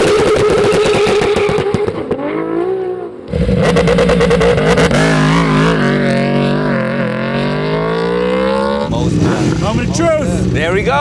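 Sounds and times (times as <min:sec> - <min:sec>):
race car engine revving: 0:00.0 - 0:11.0
superbike engine revving: 0:00.0 - 0:11.0.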